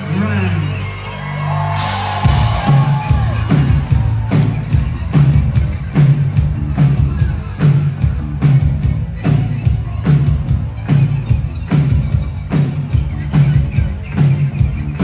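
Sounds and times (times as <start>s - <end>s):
crowd cheering: 0.0s - 15.0s
synth-pop band playing: 0.2s - 15.0s
drums and bass beat: 1.6s - 15.0s.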